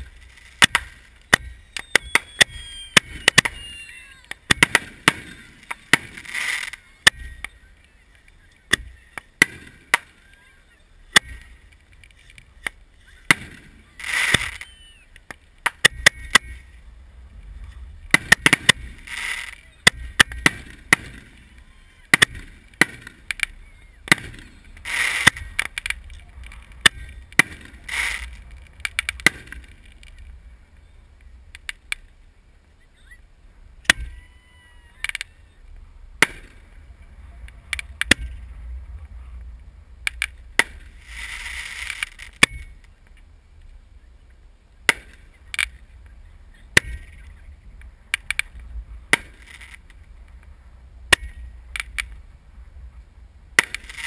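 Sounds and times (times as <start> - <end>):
fireworks banging: 0.0 - 32.2, 32.9 - 43.8, 44.8 - 54.0
fireworks hissing: 0.0 - 32.2, 34.9 - 43.0, 45.0 - 50.8, 53.6 - 54.0.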